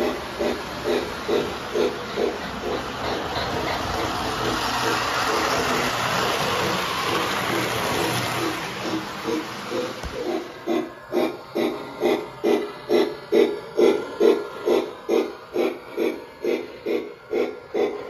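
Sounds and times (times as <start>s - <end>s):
locomotive motor: 0.0s - 18.0s
model train running on track: 0.0s - 18.0s.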